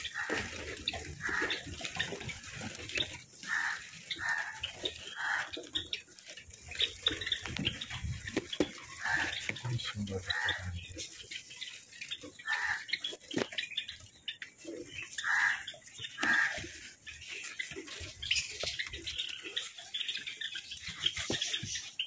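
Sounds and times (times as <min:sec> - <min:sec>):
rustling of grass: 0:00.0 - 0:22.0
sparrows calling: 0:00.0 - 0:22.0.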